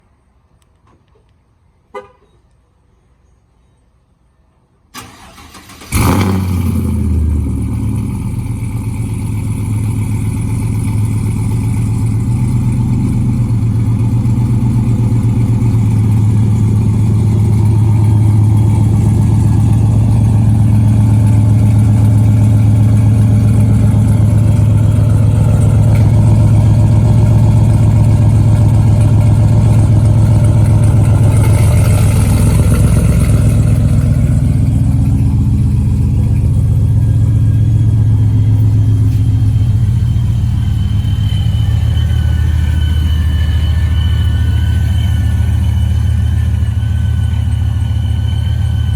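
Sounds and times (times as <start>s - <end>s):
truck engine idling: 5.0s - 48.9s.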